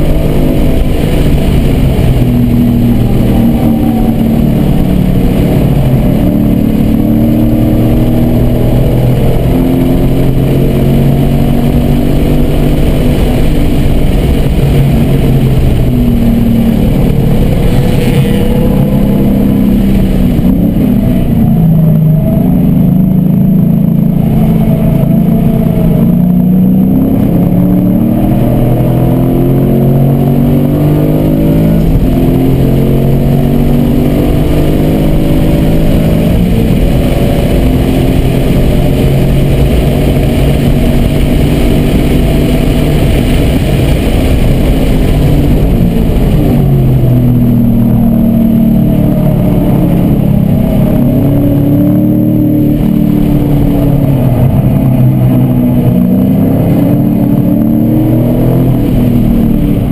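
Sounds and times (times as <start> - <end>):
car engine revving through gears: 0.0 - 59.9
wind and tyre noise: 0.0 - 59.9.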